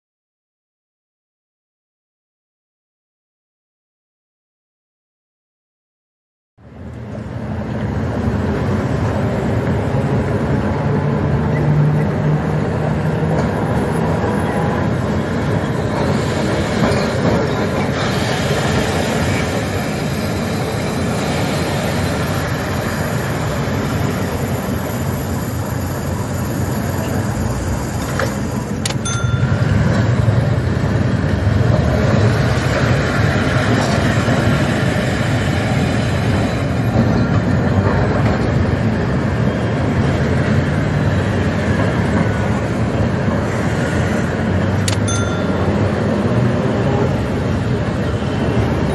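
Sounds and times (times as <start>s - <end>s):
tram wheels rumbling on rails: 6.6s - 48.9s.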